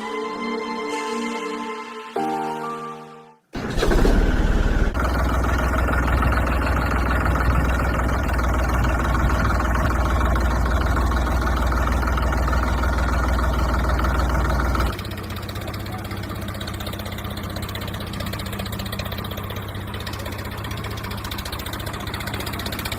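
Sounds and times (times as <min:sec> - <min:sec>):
engine idling: 0:03.6 - 0:22.9.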